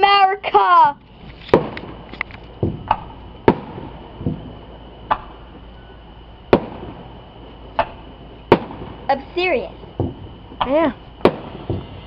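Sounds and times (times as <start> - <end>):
fireworks bangs: 1.4 - 5.7, 6.5 - 12.0.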